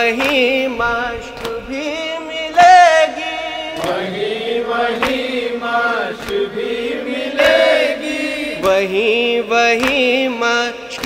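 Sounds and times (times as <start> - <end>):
men chanting a lament: 0.0 - 11.0
sharp rhythmic beats: 0.0 - 11.0.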